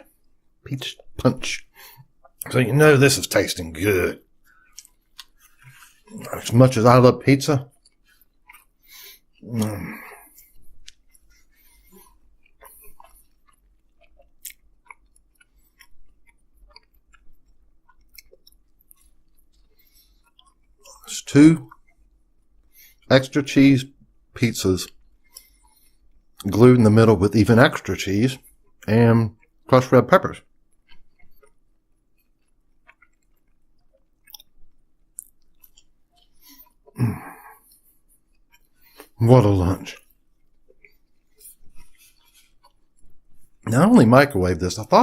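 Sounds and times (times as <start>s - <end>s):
mouth clicks and smacks: 0.0s - 2.6s, 4.4s - 6.6s, 7.6s - 24.1s, 27.7s - 43.7s
person chewing food: 0.0s - 7.0s, 7.6s - 23.1s, 23.9s - 26.6s, 27.7s - 29.7s, 30.4s - 43.7s.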